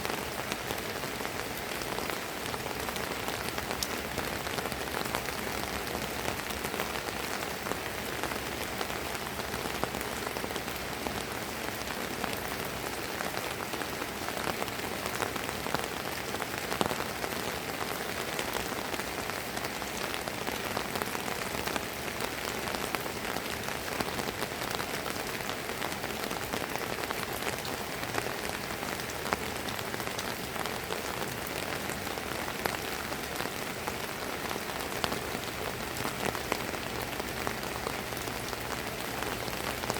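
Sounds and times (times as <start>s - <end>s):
rain drizzling: 0.0s - 39.9s.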